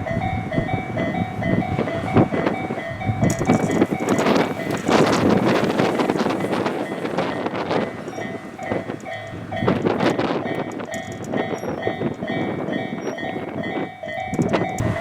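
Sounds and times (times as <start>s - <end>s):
diesel railcar rumble and clatter: 0.0s - 15.0s
level crossing warning bell: 0.0s - 15.0s.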